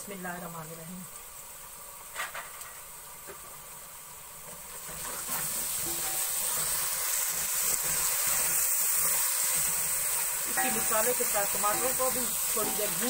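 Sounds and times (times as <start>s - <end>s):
hot oil sizzling in a pot: 0.0s - 13.0s.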